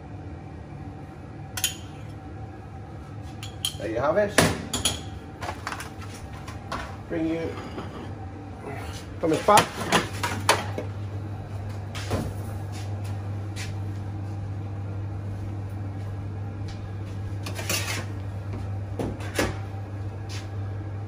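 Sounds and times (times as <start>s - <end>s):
low hum of kitchen equipment: 0.0s - 21.0s.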